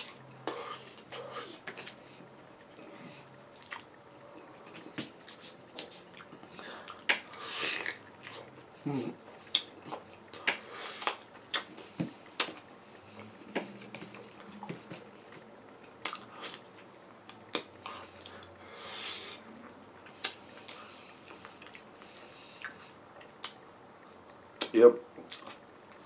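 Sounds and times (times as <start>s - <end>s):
person chewing with wet smacks: 0.0s - 4.0s, 4.6s - 18.5s, 19.1s - 26.0s.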